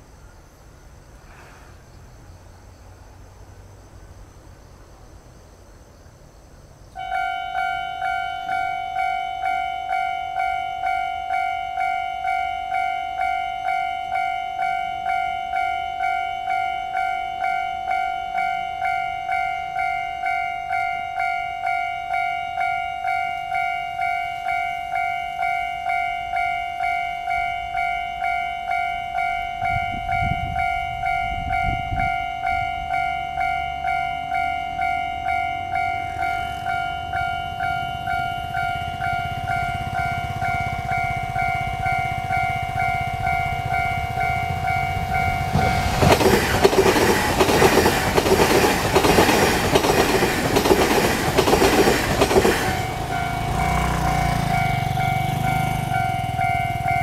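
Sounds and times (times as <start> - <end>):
level crossing warning bell: 7.0 - 57.0.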